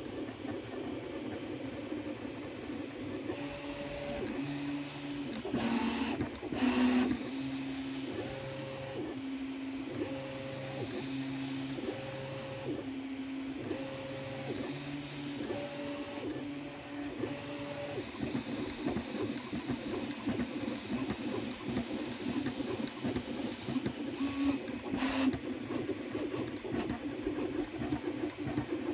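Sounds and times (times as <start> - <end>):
printer stepper motors humming: 0.0 - 28.9.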